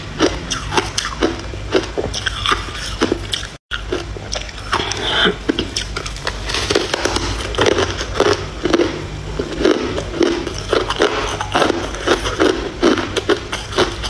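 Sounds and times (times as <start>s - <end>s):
ice crunching between teeth: 0.3s - 14.0s.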